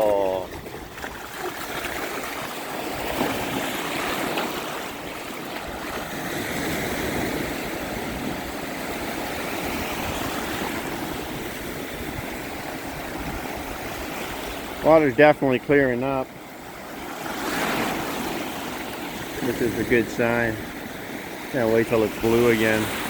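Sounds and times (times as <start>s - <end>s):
surf washing up a beach: 0.0s - 23.0s.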